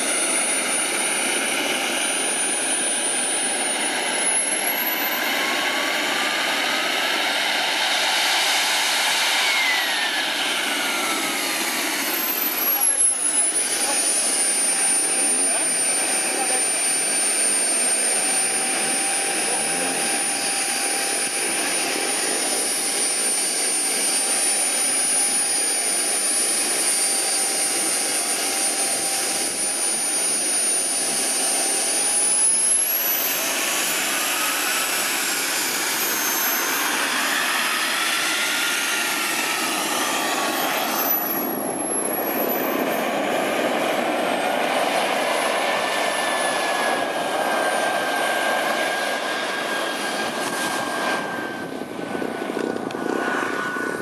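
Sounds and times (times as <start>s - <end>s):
small turbine engine whining: 0.0s - 54.0s.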